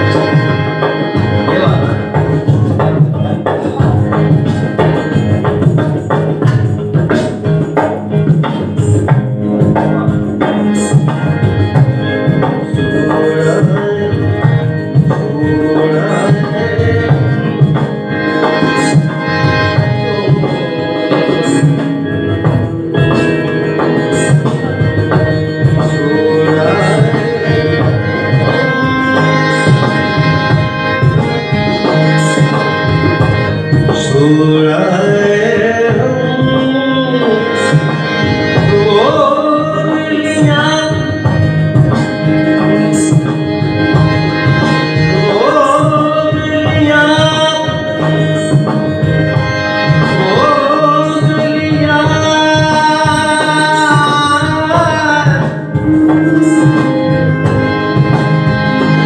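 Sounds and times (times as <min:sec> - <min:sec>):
man singing: 0:00.0 - 0:43.7, 0:44.5 - 0:57.1
harmonium playing: 0:00.0 - 0:59.0
tabla rhythm: 0:00.0 - 0:59.0.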